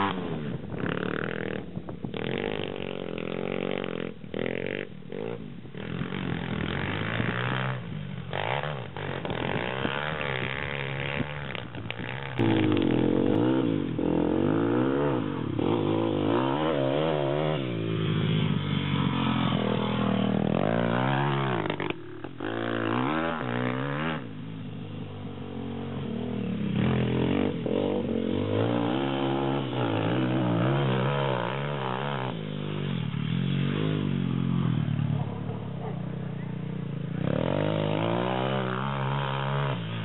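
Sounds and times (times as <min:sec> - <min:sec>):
pit bike engine revving: 0:00.0 - 0:40.0.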